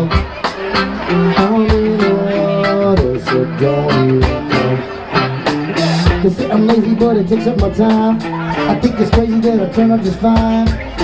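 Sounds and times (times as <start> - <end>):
live reggae band playing: 0.0 - 11.0.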